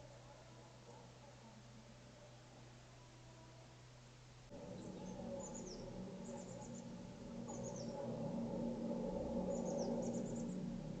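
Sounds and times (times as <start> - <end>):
low background hum: 0.0 - 11.0
songbirds chirping: 0.0 - 11.0.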